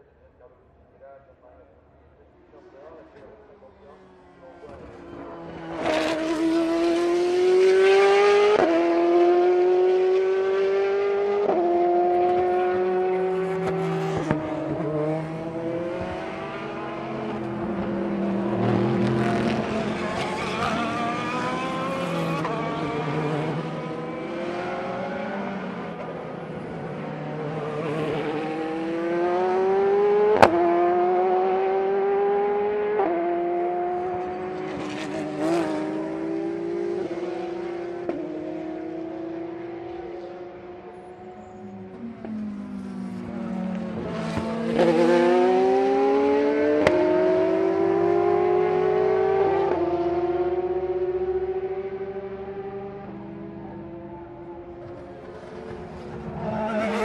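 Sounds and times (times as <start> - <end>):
race cars accelerating: 2.2 - 57.0.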